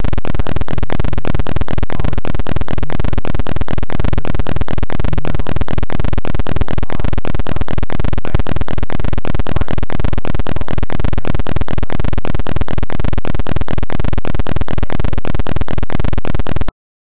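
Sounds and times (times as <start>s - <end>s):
rapid even clicking: 0.0s - 16.8s.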